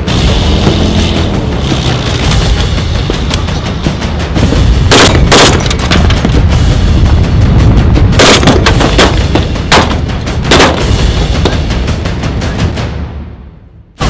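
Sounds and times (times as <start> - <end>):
music: 0.0 - 14.0.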